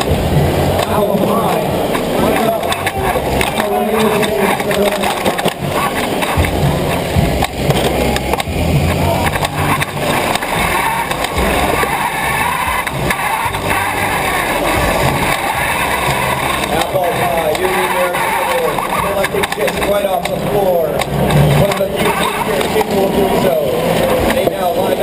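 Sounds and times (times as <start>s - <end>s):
robot drivetrain running: 0.0s - 25.0s.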